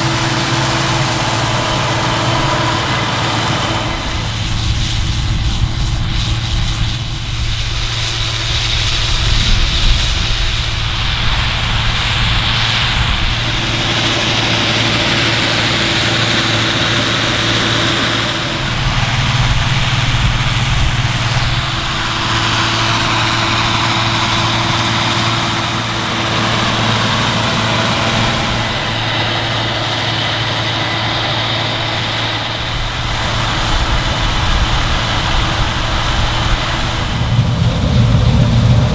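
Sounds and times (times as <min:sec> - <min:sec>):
diesel engine running: 0:00.0 - 0:38.9
machine hissing: 0:00.0 - 0:38.9.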